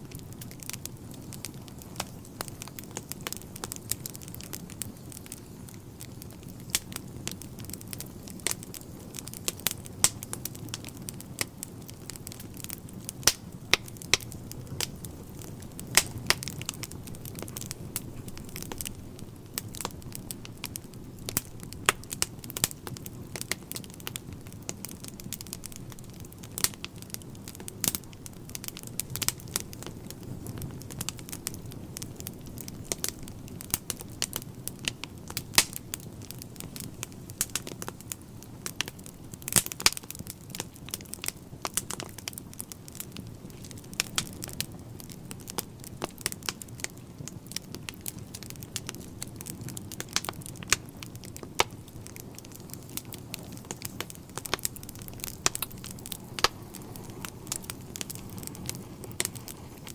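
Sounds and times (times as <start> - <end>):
burning logs crackling and popping: 0.0 - 59.9
fire flames rumbling: 0.0 - 59.9.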